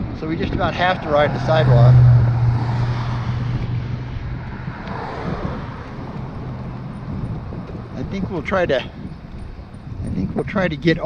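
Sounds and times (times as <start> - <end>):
passing vehicle engine hum: 0.0 - 10.8
road noise: 0.0 - 11.0
wind on microphone: 0.0 - 11.0.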